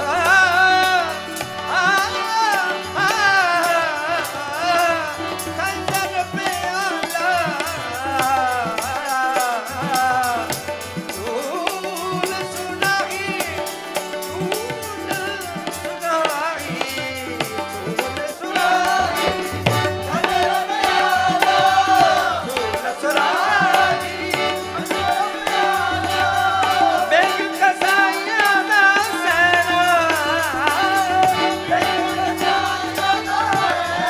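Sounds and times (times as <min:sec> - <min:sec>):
harmonium: 0:00.0 - 0:34.0
man singing a hymn: 0:00.0 - 0:34.0
tabla drumming: 0:00.0 - 0:34.0.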